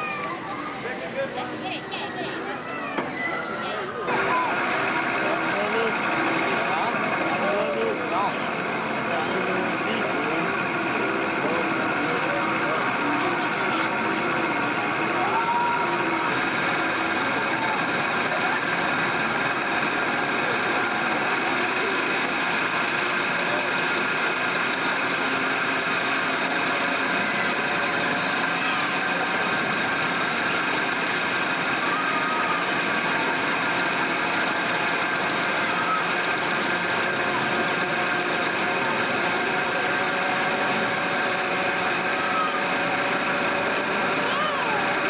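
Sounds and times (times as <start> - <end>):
faint voices: 0.0 - 45.0
ride machinery drone: 0.0 - 45.0.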